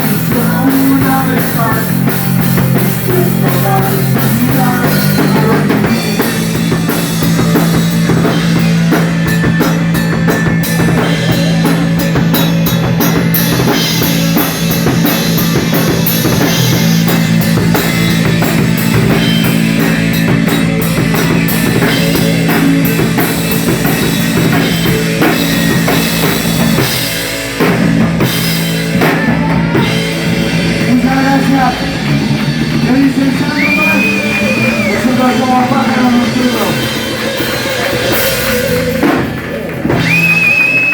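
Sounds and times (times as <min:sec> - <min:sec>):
rock band playing instrumental: 0:00.0 - 0:40.9.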